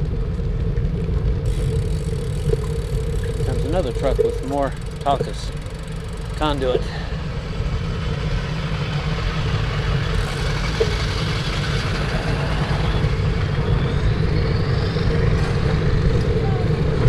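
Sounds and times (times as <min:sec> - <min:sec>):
wind buffeting microphone: 0:00.0 - 0:17.0
rising vehicle tone: 0:01.2 - 0:17.0
truck passing by: 0:01.6 - 0:17.0.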